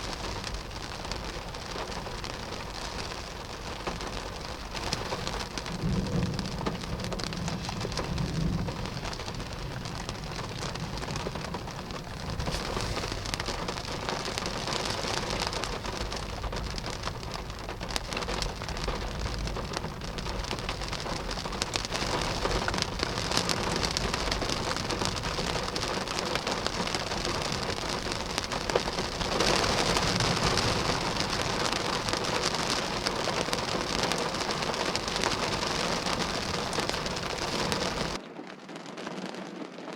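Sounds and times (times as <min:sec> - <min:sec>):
heavy rain pouring: 0:00.0 - 0:39.9
low thunder rumble: 0:00.0 - 0:39.9.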